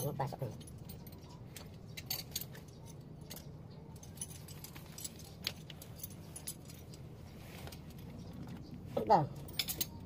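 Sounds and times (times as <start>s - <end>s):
light metallic clicks and rattles: 0.0s - 8.7s, 9.4s - 10.0s.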